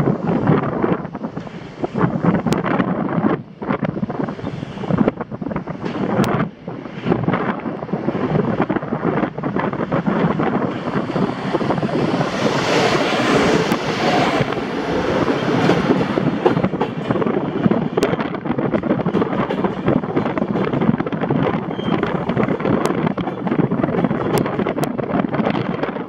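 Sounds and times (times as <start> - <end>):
train wheels rattling on rails: 0.0 - 26.0
wind buffeting microphone: 0.0 - 26.0.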